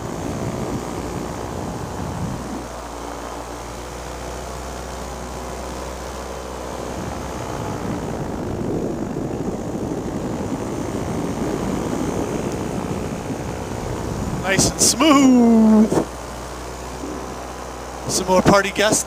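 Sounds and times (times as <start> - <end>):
wind rush on microphone: 0.0 - 5.1, 6.6 - 19.0
paramotor engine and propeller: 0.0 - 19.0.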